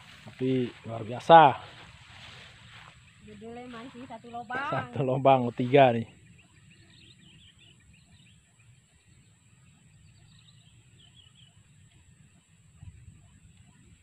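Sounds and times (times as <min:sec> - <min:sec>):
distant birds chirping: 0:00.0 - 0:14.0.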